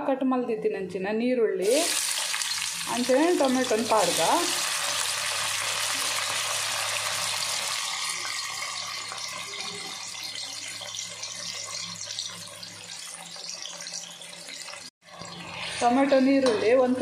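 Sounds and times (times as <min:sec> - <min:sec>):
vegetables sizzling in hot oil: 0:01.6 - 0:16.3.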